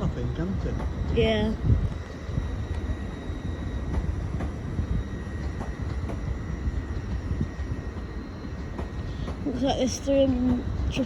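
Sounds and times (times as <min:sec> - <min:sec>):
high whine: 0:00.0 - 0:11.0
train low rumble: 0:00.0 - 0:11.0.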